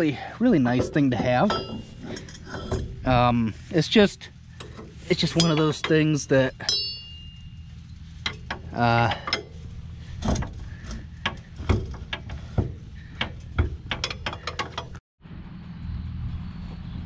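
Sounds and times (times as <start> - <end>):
low engine hum: 0.0 - 17.0
metal clinks and clanks: 0.1 - 15.0.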